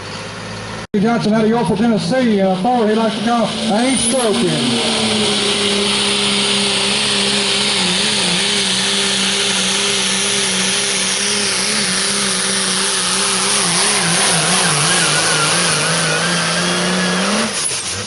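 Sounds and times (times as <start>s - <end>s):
diesel truck engine at full throttle: 0.0s - 18.0s.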